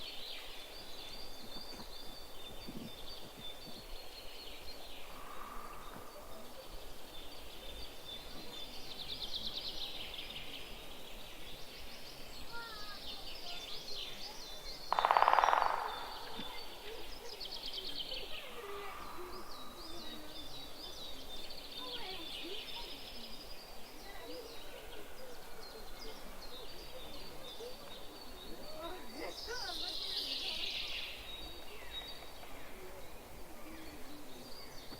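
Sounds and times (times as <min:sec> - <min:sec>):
wild birds chirping and trilling: 0:00.0 - 0:34.9.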